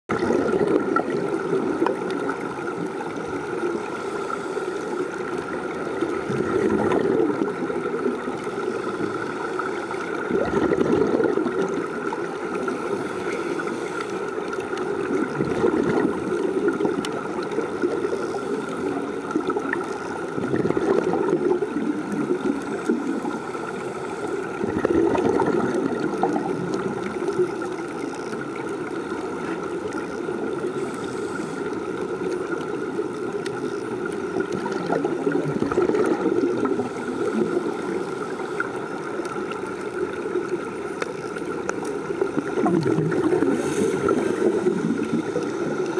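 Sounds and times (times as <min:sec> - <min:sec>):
underwater air bubbling and hissing: 0:00.1 - 0:45.9.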